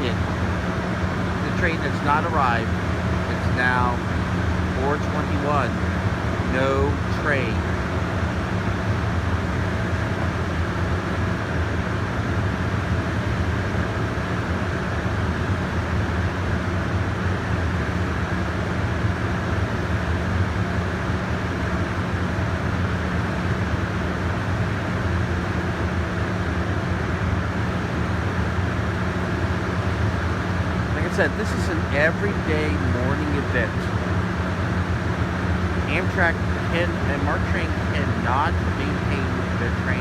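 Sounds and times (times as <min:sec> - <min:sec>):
constant rushing noise: 0:00.0 - 0:16.4, 0:18.3 - 0:40.0
low mechanical hum: 0:00.0 - 0:40.0.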